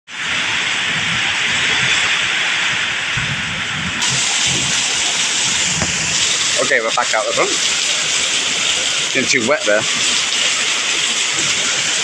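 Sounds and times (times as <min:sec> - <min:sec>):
heavy rain pouring: 0:00.1 - 0:12.0.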